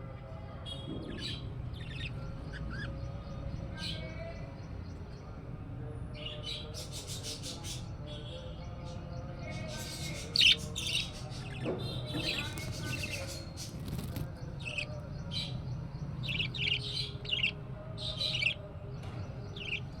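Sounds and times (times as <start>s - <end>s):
budgerigar chicks chirping: 1.1s - 5.2s, 6.2s - 8.0s, 8.8s - 18.7s, 19.4s - 20.0s.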